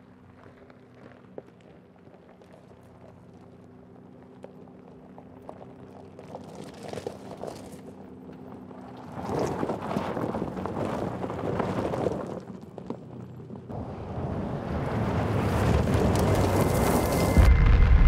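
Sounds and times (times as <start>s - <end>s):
tyres crunching on gravel: 0.0s - 13.8s, 14.8s - 17.8s.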